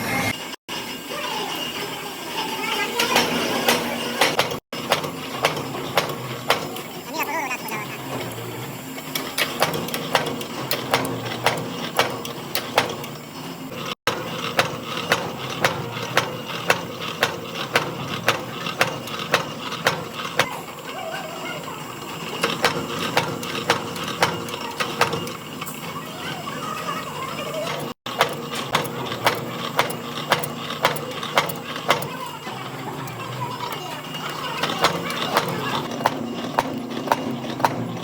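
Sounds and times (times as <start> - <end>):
steady machine hum: 0.0 - 38.0
machine clacking rhythmically: 3.0 - 7.2, 7.9 - 38.0.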